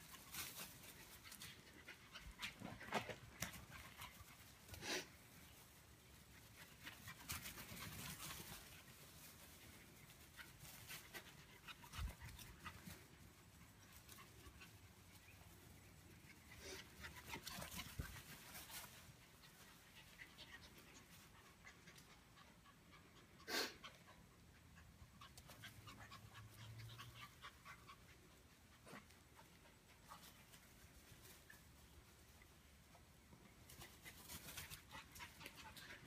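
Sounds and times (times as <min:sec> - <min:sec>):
dogs panting and scuffling: 0:00.0 - 0:36.0.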